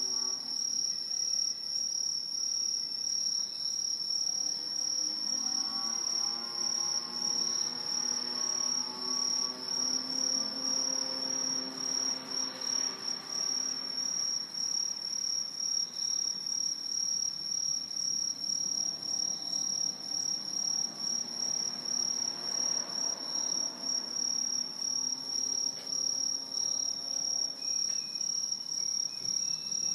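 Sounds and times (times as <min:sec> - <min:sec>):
crickets trilling: 0:00.0 - 0:29.9.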